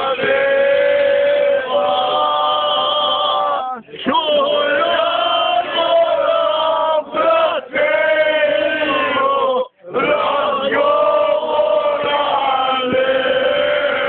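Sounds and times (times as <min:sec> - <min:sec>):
men singing together: 0:00.0 - 0:14.0.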